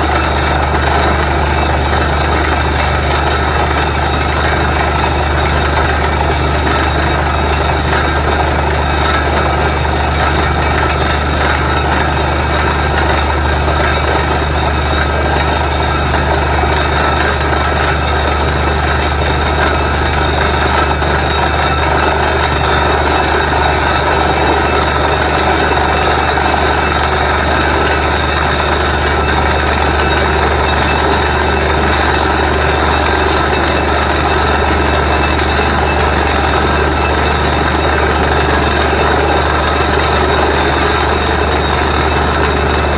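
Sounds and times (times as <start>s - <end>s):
drilling rig machinery drone: 0.0s - 42.9s.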